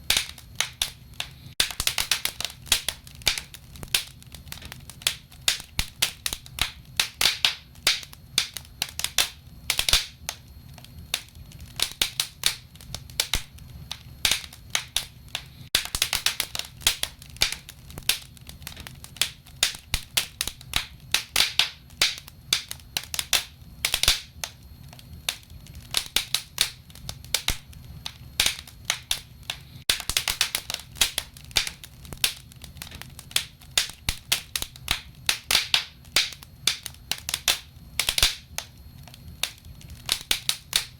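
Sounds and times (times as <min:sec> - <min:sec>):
wood fire crackling in a stove: 0:00.0 - 0:40.9.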